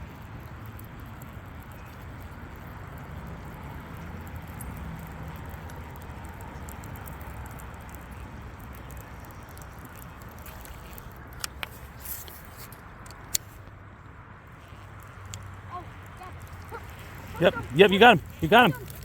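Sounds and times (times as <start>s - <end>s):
water around a boat: 0.0s - 19.0s.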